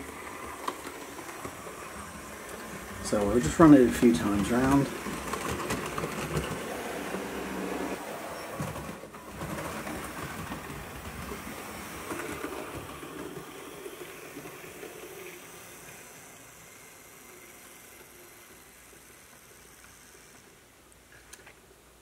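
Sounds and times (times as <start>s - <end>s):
model train running rumble: 0.0s - 20.8s.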